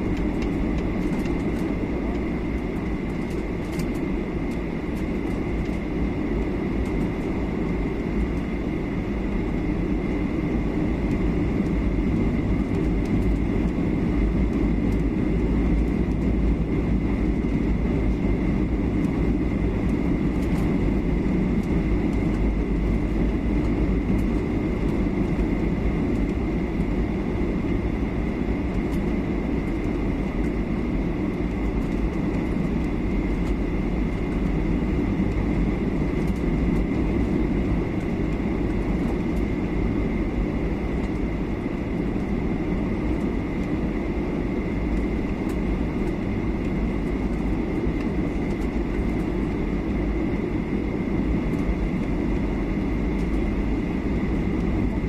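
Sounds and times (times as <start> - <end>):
airliner cabin engine rumble: 0.0 - 55.0
thin steady whine: 0.0 - 55.0.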